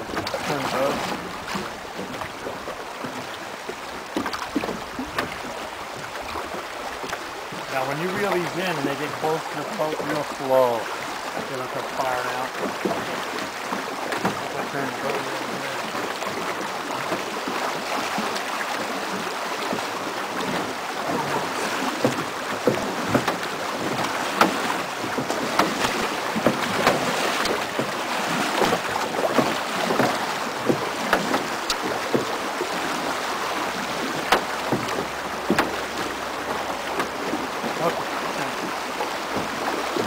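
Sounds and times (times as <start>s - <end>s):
river water rushing: 0.0s - 40.0s
sharp splashes and knocks: 0.0s - 40.0s.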